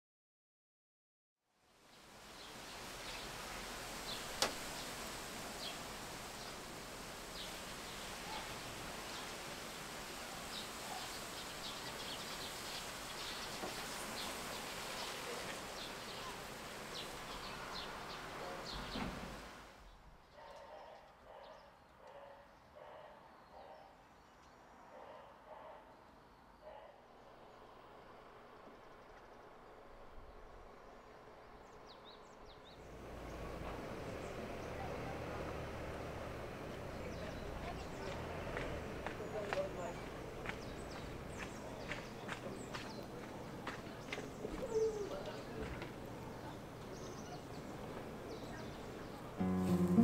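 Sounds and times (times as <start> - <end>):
steady outdoor hiss: 1.5 - 20.4, 21.1 - 50.0.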